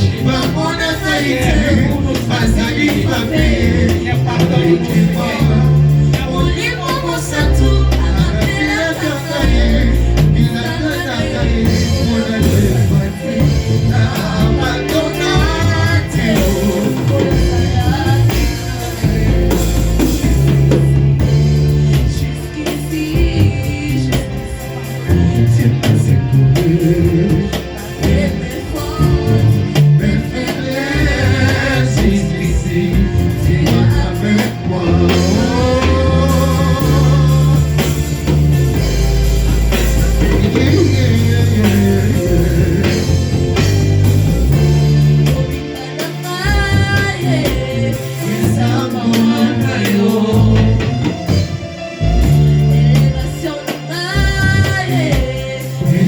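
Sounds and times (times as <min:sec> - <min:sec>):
person singing: 0:00.0 - 0:43.8, 0:44.4 - 0:51.5, 0:52.1 - 0:56.0
band with heavy bass: 0:00.0 - 0:56.0.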